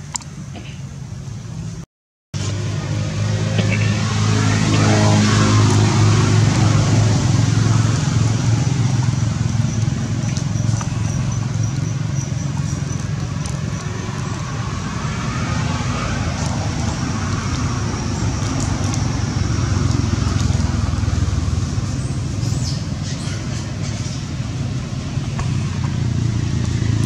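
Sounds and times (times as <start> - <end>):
low outdoor rumble: 2.4 - 27.0.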